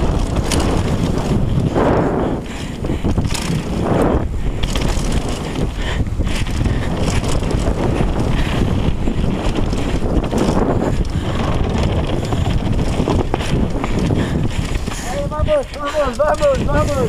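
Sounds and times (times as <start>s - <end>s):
bike rattling and knocking: 0.0s - 17.0s
tyres rumbling on dirt trail: 0.0s - 17.0s
wind buffeting microphone: 0.0s - 17.0s.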